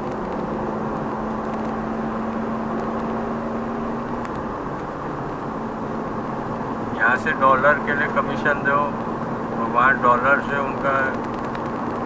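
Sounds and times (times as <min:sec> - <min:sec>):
car road noise from inside: 0:00.0 - 0:12.0.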